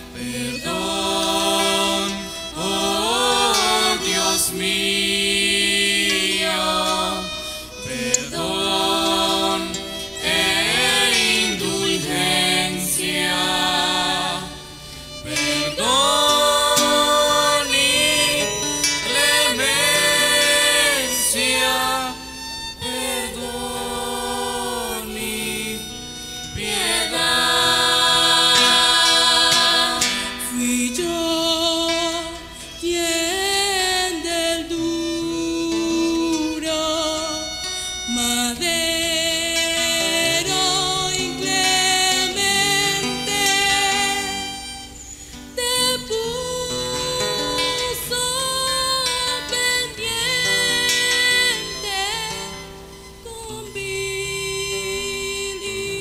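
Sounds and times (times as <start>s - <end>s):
soloist and choir singing: 0.0s - 56.0s.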